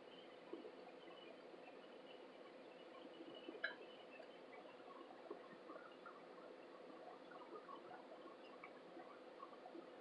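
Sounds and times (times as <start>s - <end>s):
quiet steady hum: 0.0s - 10.0s.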